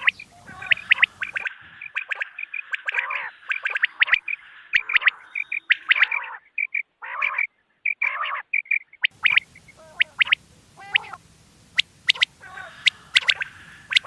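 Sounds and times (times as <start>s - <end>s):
harsh buzzy bird calls: 0.0s - 14.0s
recorded quail calls: 0.0s - 14.0s.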